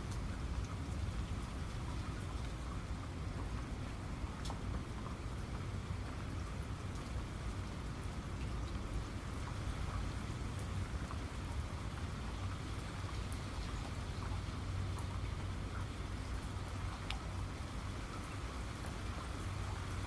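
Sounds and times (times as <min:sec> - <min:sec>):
rain falling: 0:00.0 - 0:20.0
raindrops ticking: 0:00.0 - 0:20.0.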